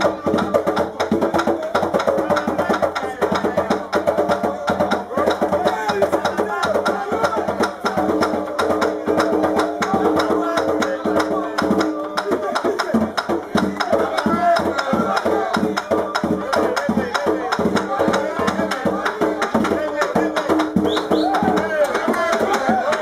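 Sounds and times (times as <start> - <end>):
call-and-response singing: 0.0 - 23.0
hand drum fast rhythm: 0.0 - 23.0.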